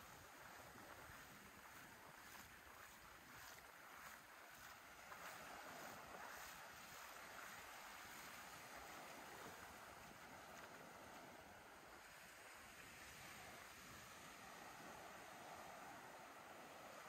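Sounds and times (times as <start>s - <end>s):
surf washing over sand: 0.0s - 17.0s.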